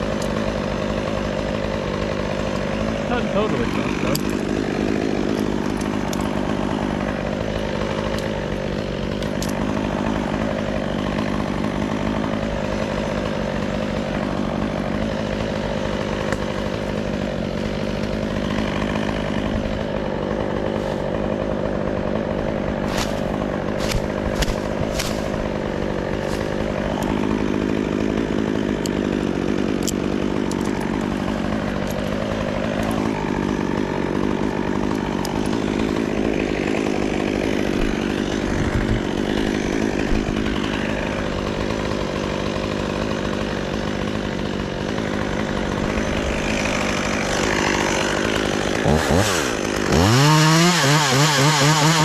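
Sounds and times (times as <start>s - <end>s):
chainsaw engine running: 0.0s - 52.0s.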